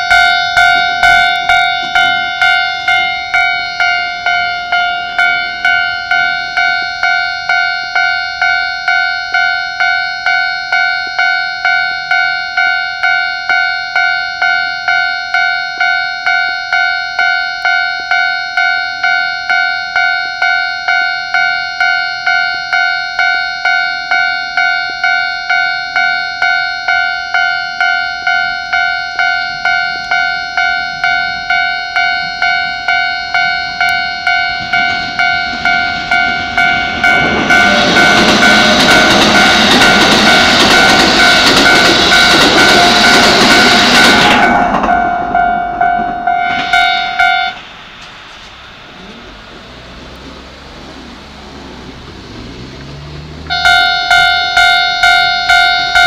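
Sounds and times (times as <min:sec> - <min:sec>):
level crossing bell ringing: 0:00.0 - 0:47.7, 0:53.5 - 0:56.0
electric train passing: 0:00.0 - 0:56.0.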